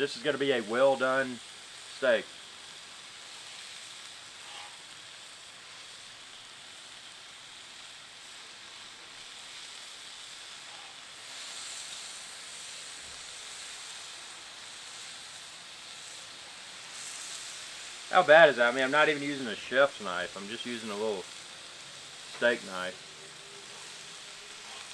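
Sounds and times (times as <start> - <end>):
steak sizzling on griddle: 0.0 - 24.9.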